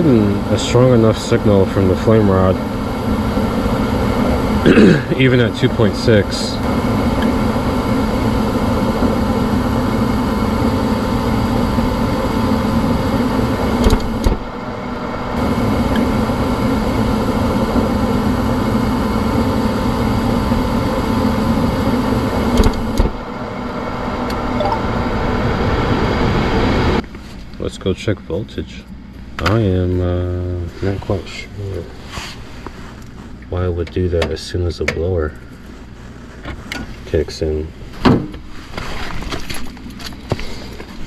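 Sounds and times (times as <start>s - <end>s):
gas furnace motor hum: 0.0s - 38.8s.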